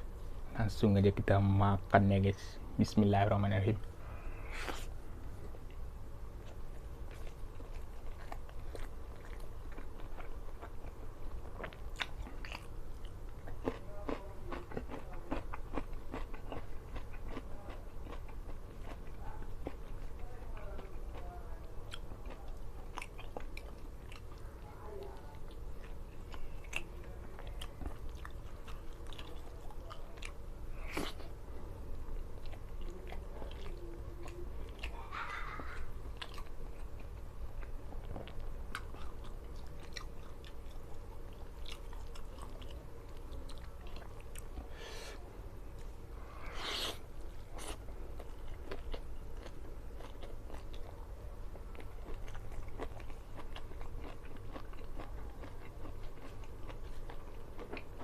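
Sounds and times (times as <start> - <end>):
close-up chewing: 4.5 - 44.8, 46.5 - 58.0.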